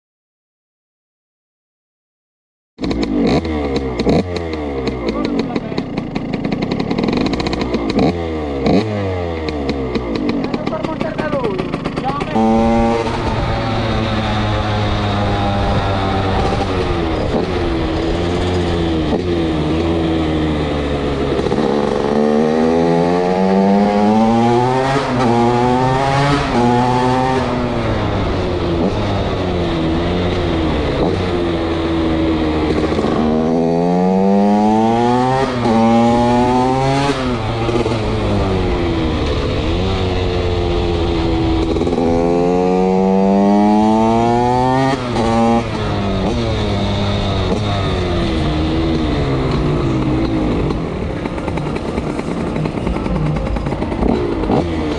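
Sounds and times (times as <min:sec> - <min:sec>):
two-stroke motorcycle accelerating: 0:02.8 - 0:54.9.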